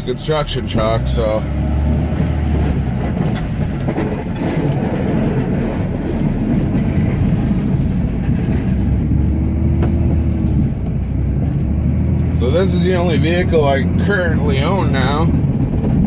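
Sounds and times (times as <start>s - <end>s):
diesel engine low drone: 0.0s - 16.0s.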